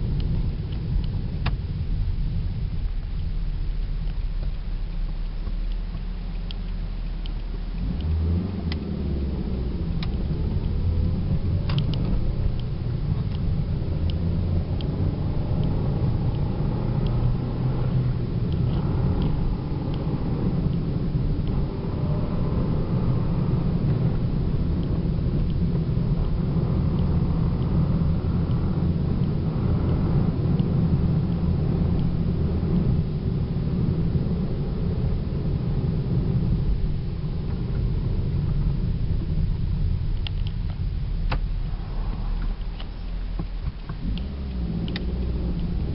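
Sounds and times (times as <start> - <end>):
car engine accelerating: 0.0 - 45.9
faint ticks: 3.0 - 21.7, 23.8 - 33.0, 36.4 - 45.9.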